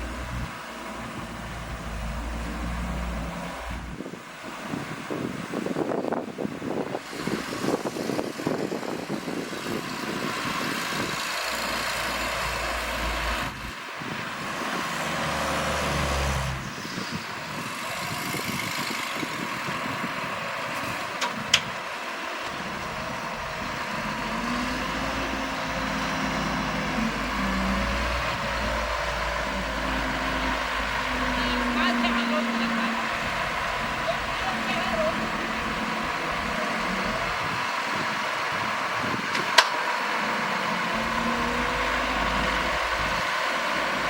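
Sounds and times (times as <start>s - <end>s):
heavy diesel engines running: 0.0s - 44.0s.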